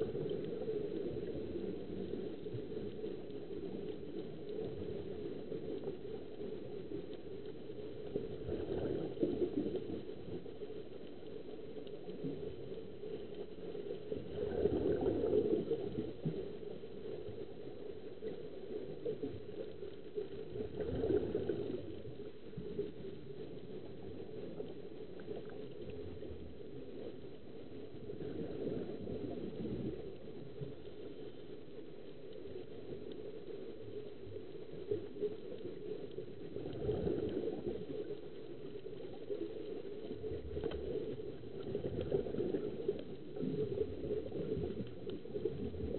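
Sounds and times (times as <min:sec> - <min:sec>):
underwater bubbling and rushing: 0:00.0 - 0:45.9.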